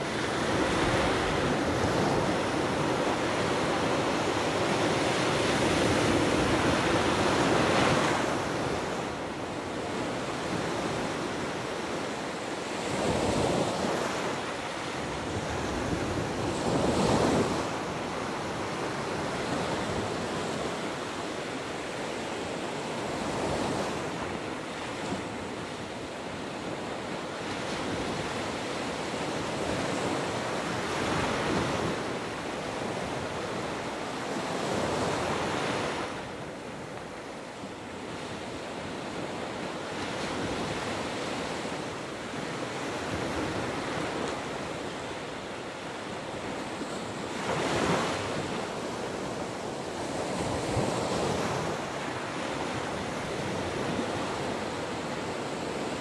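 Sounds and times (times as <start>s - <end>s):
surf washing up a beach: 0.0s - 56.0s.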